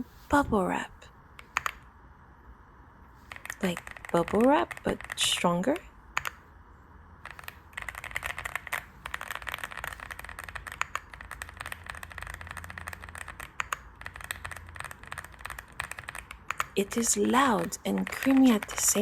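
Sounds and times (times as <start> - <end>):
mechanical keyboard typing: 1.4 - 1.9, 3.2 - 6.4, 7.2 - 19.0.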